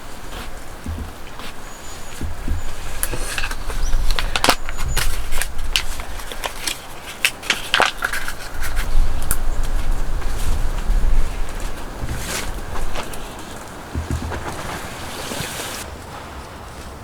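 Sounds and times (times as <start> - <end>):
wood cracking and snapping: 0.0 - 15.8.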